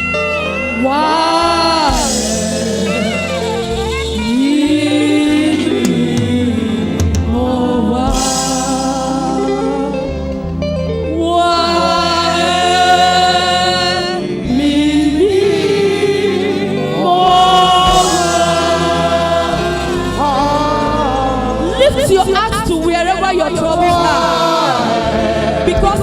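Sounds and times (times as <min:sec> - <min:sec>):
group singing gospel song: 0:00.0 - 0:26.0
instrumental accompaniment: 0:00.0 - 0:26.0.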